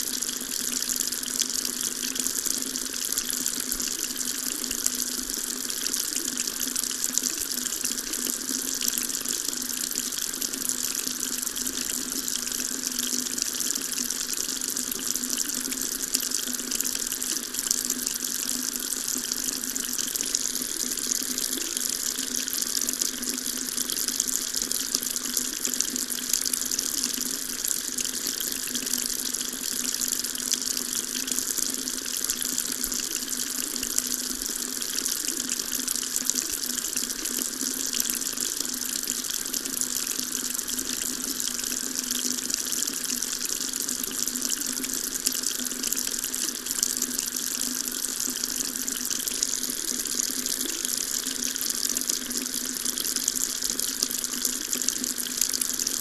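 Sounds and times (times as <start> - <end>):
water tap running: 0.0 - 56.0.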